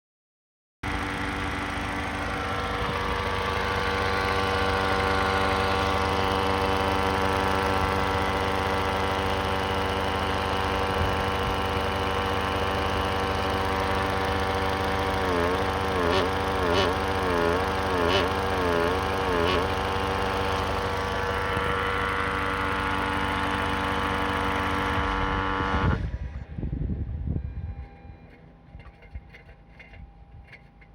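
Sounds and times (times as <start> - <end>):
car engine with abnormal noise: 0.8 - 26.6, 27.7 - 30.9.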